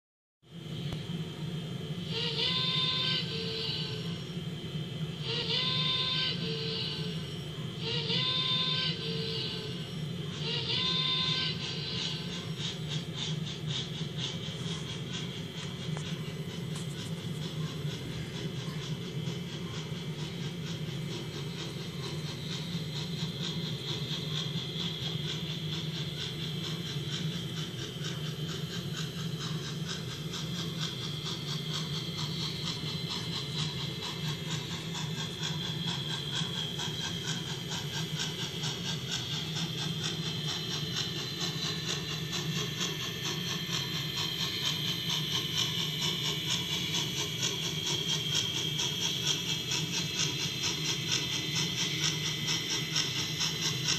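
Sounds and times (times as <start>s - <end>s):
model steam locomotive chuffing: 0.4s - 53.9s
steady low hum: 0.5s - 53.9s.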